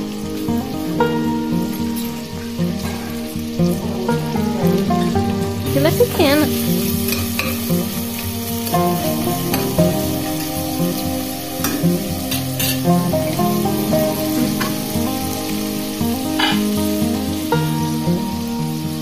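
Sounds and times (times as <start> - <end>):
background music: 0.0 - 19.0
bacon sizzling in oil: 0.0 - 19.0.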